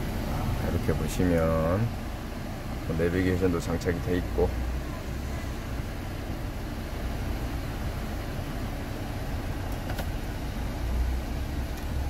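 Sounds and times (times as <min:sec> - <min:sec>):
air conditioning blowing: 0:00.0 - 0:12.0
car engine idling: 0:00.0 - 0:12.0.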